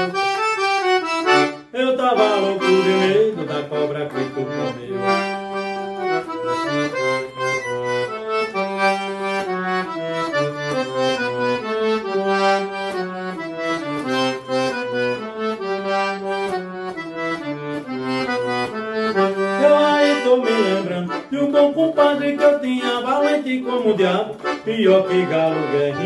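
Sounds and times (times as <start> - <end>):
accordion playing: 0.0 - 26.0.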